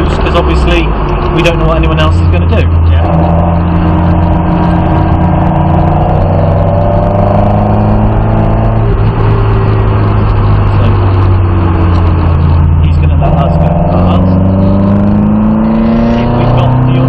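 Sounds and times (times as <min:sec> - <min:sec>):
car engine from inside cabin: 0:00.0 - 0:17.0.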